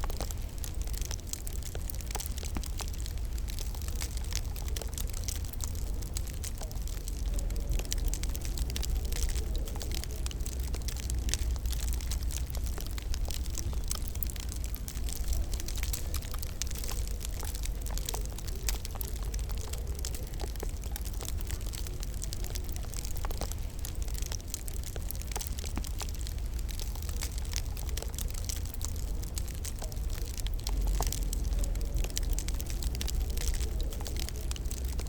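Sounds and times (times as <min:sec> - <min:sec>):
low rumble and hiss of fire: 0:00.0 - 0:35.0
wood fire crackling: 0:00.0 - 0:35.0.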